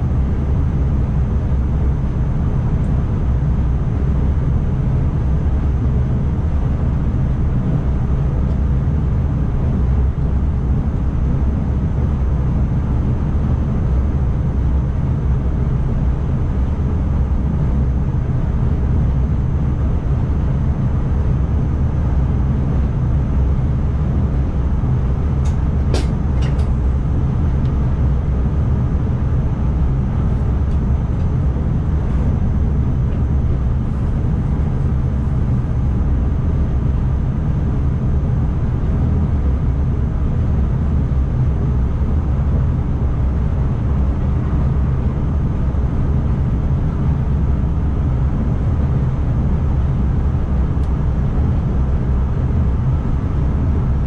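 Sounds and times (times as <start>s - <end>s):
electric train rumbling on track: 0.0s - 54.0s.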